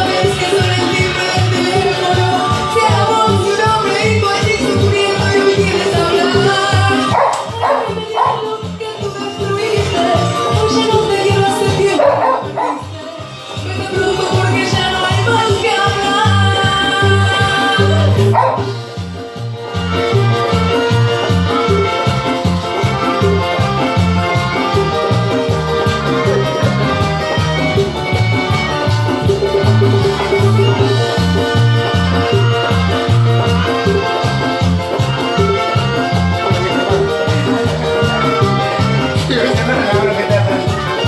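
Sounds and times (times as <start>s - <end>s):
instrumental latin dance music: 0.0s - 41.0s.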